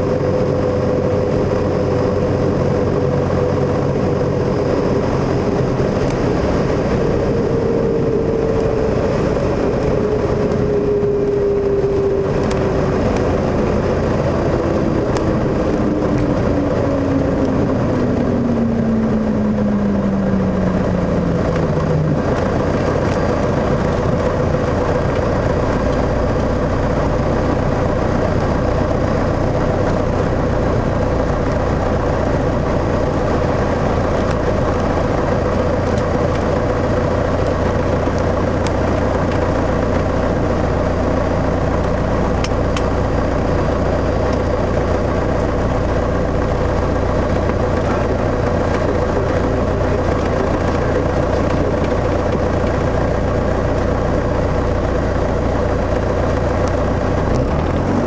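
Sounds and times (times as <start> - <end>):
aircraft engine running: 0.0 - 58.0.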